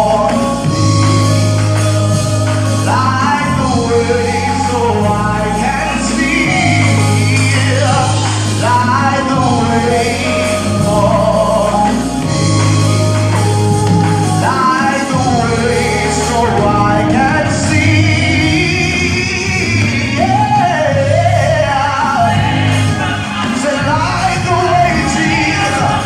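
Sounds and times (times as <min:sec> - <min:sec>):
backing singers: 0:00.0 - 0:26.0
band with low bass notes: 0:00.0 - 0:26.0
man singing lead vocals: 0:00.0 - 0:26.0.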